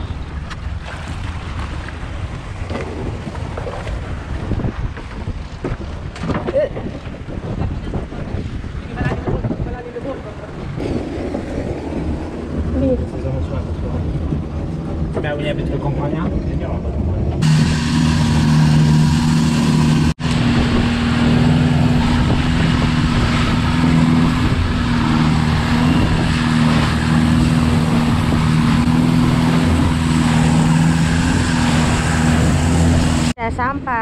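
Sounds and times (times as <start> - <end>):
boat engine running: 0.0 - 34.0
water rushing along hull: 0.0 - 34.0.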